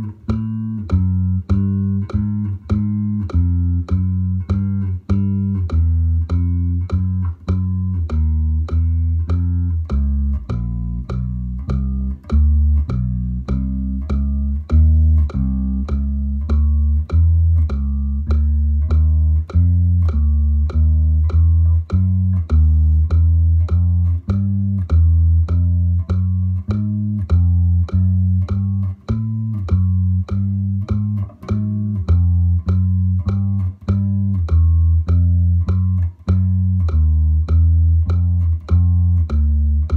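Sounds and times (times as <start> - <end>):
electric bass plucked notes: 0.0 - 39.9.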